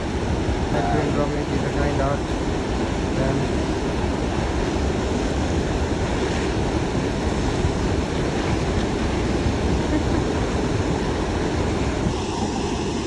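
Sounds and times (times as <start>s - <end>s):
fast churning water: 0.0s - 13.0s.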